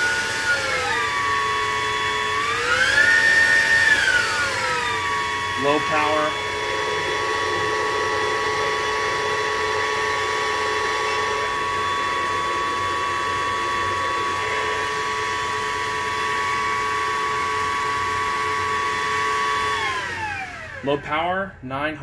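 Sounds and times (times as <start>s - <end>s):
vacuum cleaner motor whine: 0.0s - 21.3s.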